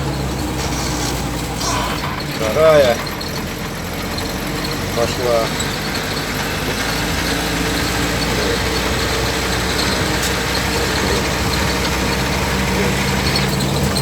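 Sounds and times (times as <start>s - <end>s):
vehicle engine and drivetrain running: 0.0s - 14.0s.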